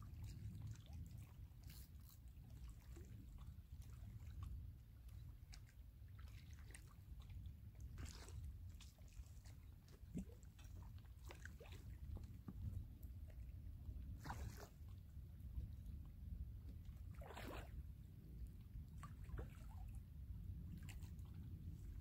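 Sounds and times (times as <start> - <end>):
faint wind rumble on microphone: 0.0 - 22.0.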